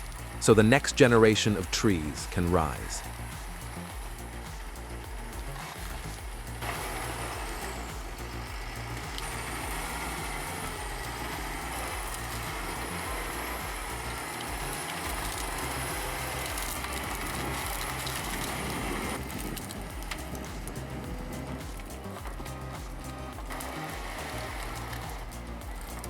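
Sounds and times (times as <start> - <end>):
diesel engine running with whine: 0.0 - 26.0.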